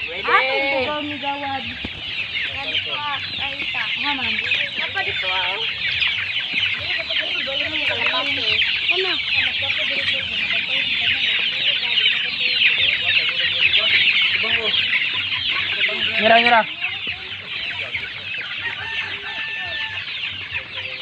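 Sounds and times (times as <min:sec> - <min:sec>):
chickens clucking: 0:00.0 - 0:21.0
chicks peeping: 0:00.0 - 0:21.0.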